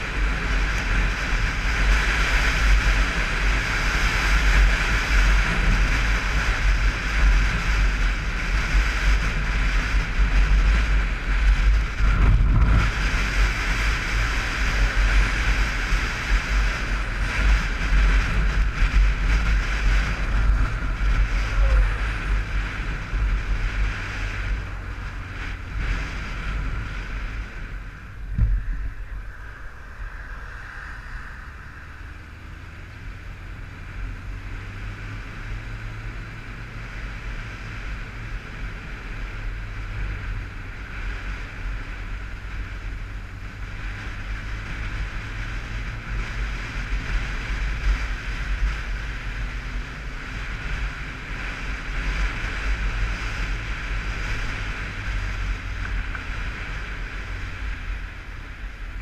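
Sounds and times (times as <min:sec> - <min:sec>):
motorcycle engine and tyres: 0:00.0 - 0:59.0
wind buffeting microphone: 0:00.0 - 0:59.0.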